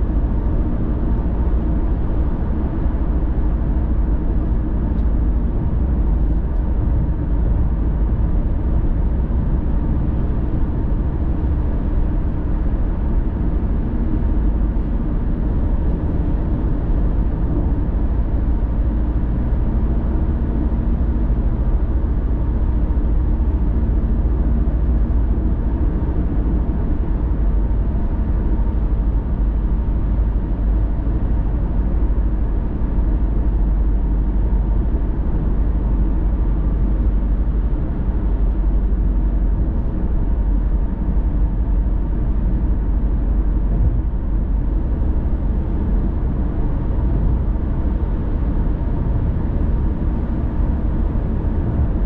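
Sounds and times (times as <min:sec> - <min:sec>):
car road noise rumble: 0:00.0 - 0:52.0.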